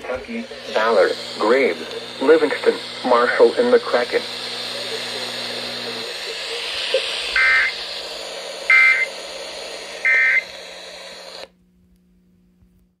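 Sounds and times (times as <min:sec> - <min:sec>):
buzzy data bursts: 0:00.0 - 0:11.5
radio hiss: 0:00.0 - 0:11.5.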